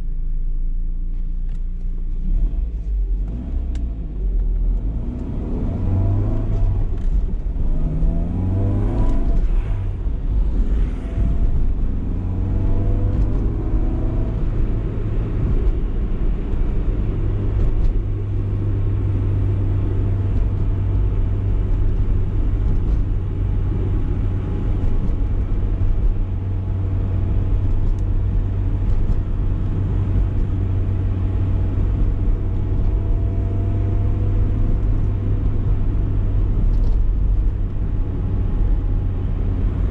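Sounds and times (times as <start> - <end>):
car engine accelerating and cruising: 0.0 - 39.9
road rumble: 0.0 - 39.9.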